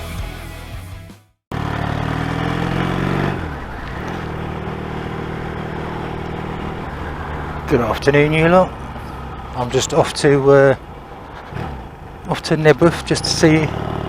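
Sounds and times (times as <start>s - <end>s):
motorcycle engine running: 1.5s - 14.0s.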